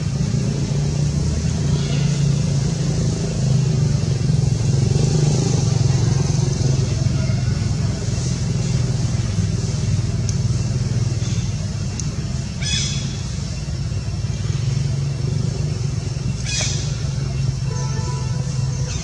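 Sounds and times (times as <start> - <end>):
rustling hiss: 0.0 - 19.0.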